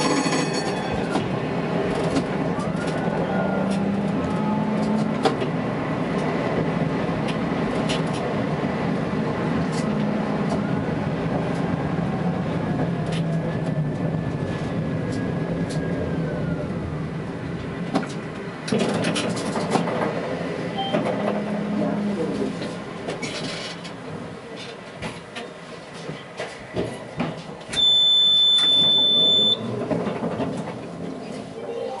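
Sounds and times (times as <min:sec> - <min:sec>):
tram rolling rumble and motor hum: 0:00.0 - 0:32.0.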